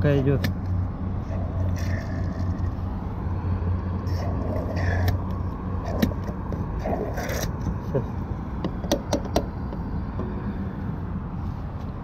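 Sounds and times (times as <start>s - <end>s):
low hum: 0.4s - 12.0s.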